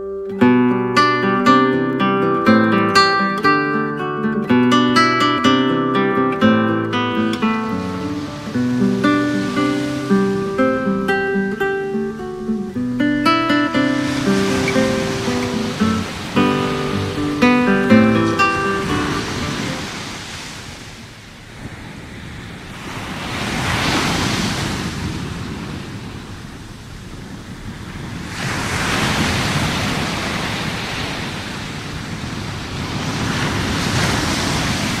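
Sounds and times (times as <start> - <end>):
sea waves washing onto beach: 1.0 - 35.0.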